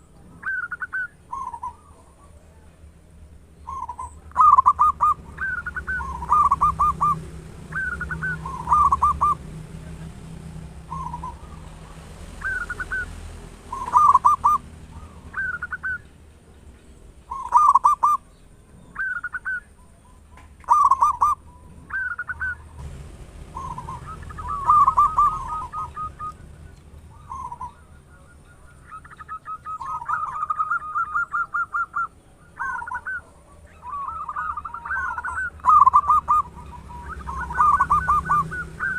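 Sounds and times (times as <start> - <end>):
dove cooing: 0.0 - 2.8, 3.7 - 16.1, 17.3 - 18.3, 18.9 - 38.9
steady low hum: 0.0 - 38.9.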